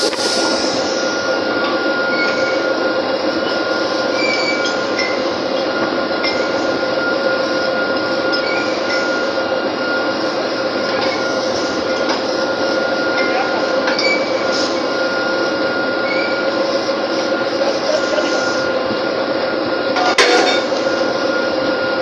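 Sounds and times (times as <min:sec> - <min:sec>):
drilling rig machinery hum: 0:00.0 - 0:22.0.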